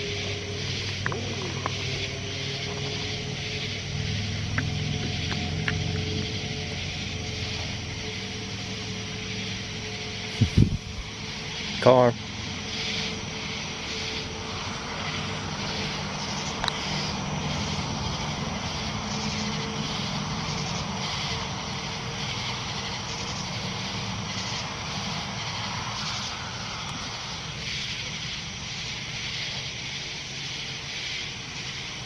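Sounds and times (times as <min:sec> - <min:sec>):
high-pitched pulsing chorus: 0:00.0 - 0:29.8
distant engine droning: 0:00.0 - 0:32.0.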